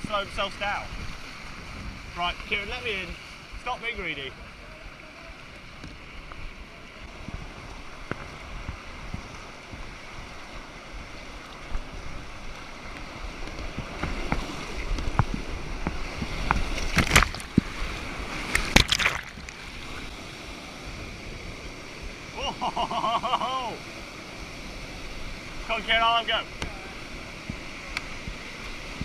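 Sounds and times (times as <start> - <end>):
rushing whitewater: 0.0 - 29.0.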